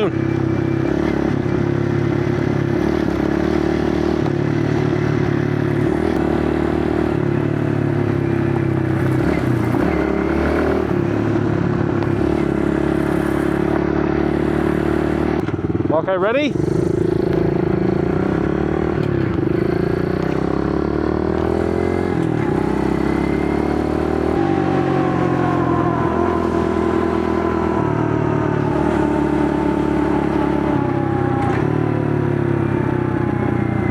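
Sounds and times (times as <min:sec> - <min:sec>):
pit bike engine accelerating: 0:00.0 - 0:33.9.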